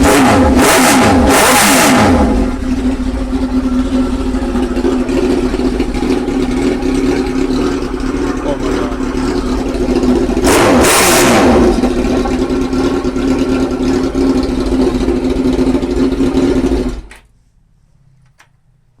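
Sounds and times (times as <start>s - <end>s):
motorcycle engine idling and revving: 0.0s - 17.2s.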